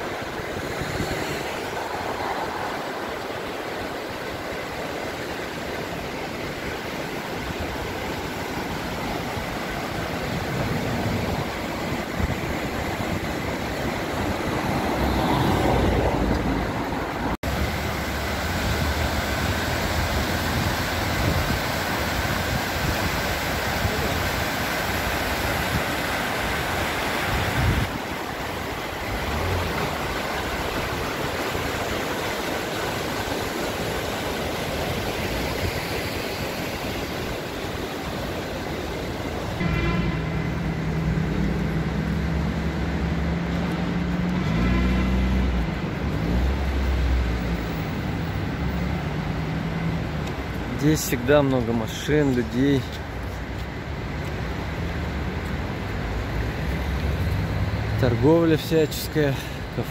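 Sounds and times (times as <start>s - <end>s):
river rushing over stones: 0.0s - 59.9s
road traffic: 0.0s - 59.9s.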